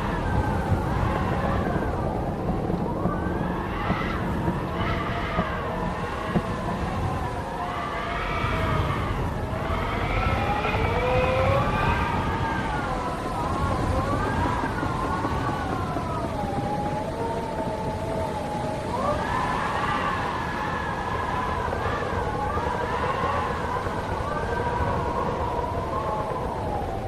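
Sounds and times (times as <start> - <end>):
gusting wind rumble: 0.0 - 27.0
wind whistling: 0.0 - 27.0.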